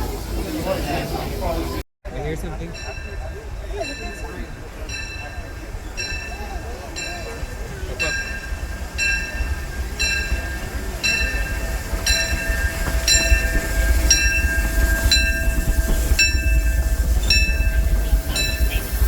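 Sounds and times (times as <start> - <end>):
low rumble of train: 0.0 - 19.0
train bell ringing: 2.4 - 19.0.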